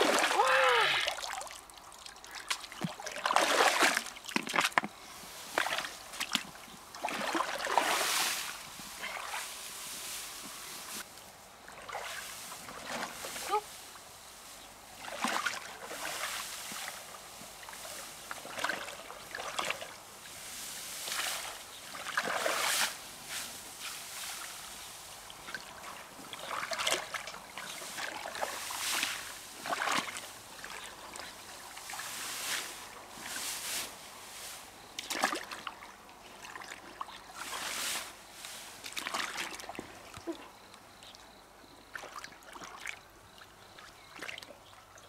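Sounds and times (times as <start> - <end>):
water sloshing and splashing: 0.0 - 11.0, 11.6 - 13.8, 14.9 - 20.0, 21.0 - 23.0, 25.2 - 33.8, 35.0 - 38.0, 38.8 - 40.5, 41.9 - 44.8
faint steady hiss: 0.0 - 45.0.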